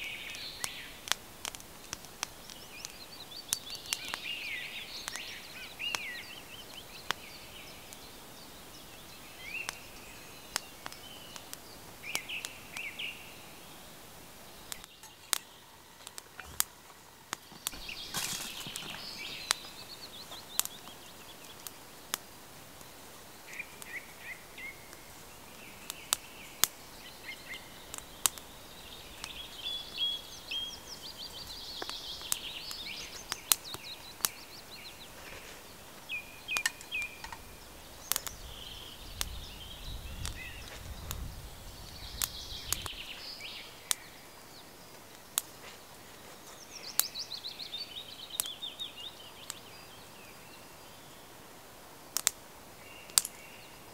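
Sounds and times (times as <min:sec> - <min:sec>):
wood crackling in stove: 0:00.0 - 0:47.2, 0:48.1 - 0:50.4, 0:51.2 - 0:53.9
songbirds singing: 0:00.0 - 0:53.9.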